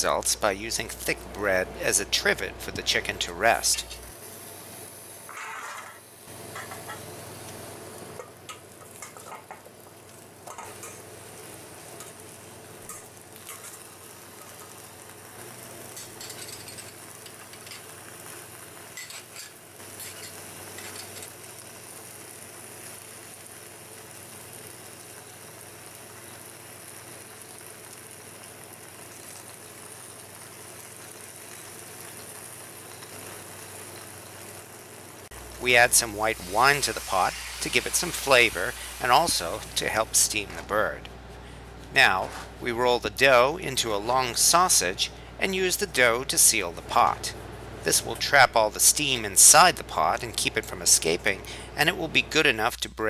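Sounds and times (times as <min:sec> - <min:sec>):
dutch oven sizzling: 0:00.0 - 0:52.8.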